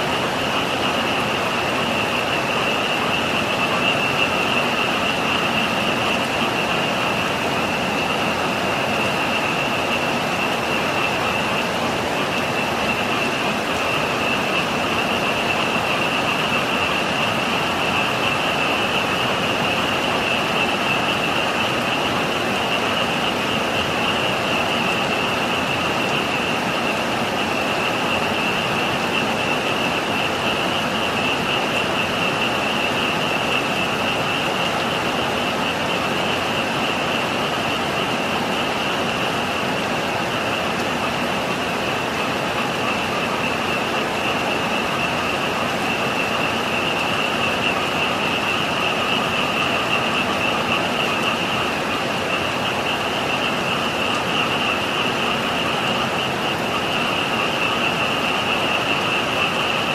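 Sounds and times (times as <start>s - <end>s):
frogs calling: 0.0s - 59.9s
heavy rain hissing: 0.0s - 59.9s.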